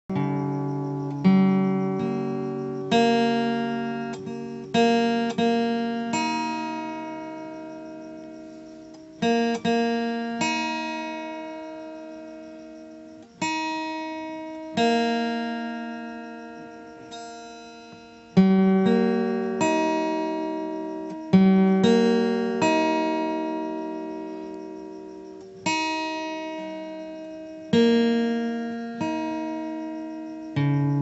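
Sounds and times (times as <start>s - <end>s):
acoustic guitar plucked chords: 0.0s - 31.0s.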